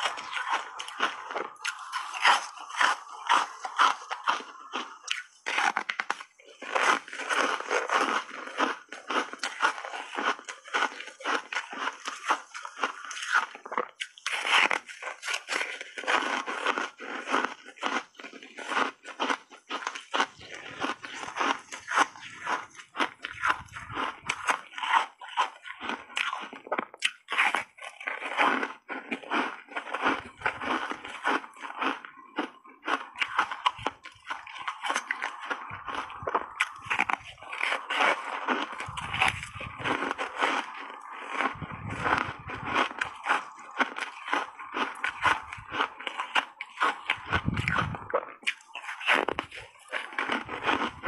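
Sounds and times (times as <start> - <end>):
crunching and chewing ice: 0.0 - 51.0.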